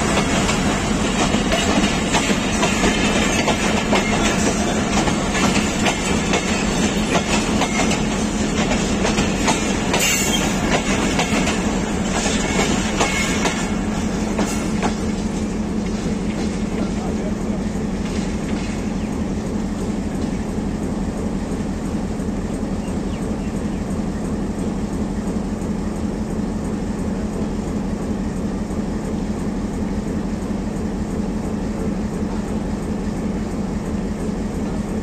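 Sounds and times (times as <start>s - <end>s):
train coaches rumbling on track: 0.0s - 35.0s.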